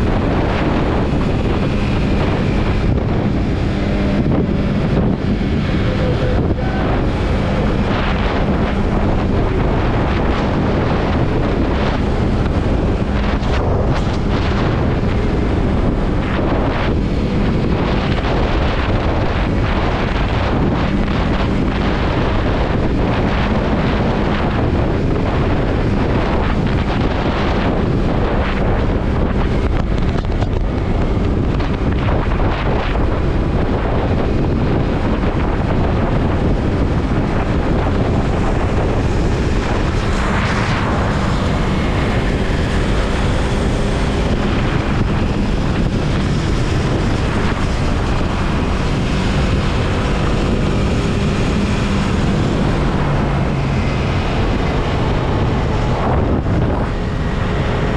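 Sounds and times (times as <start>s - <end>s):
motorcycle engine drone: 0.0s - 57.9s
wind buffeting microphone: 0.0s - 57.9s.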